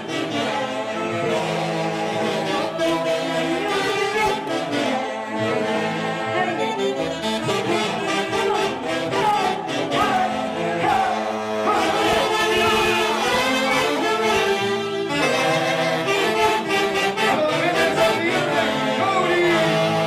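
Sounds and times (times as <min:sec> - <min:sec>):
live band with saxophones: 0:00.0 - 0:20.0
person singing: 0:00.0 - 0:20.0.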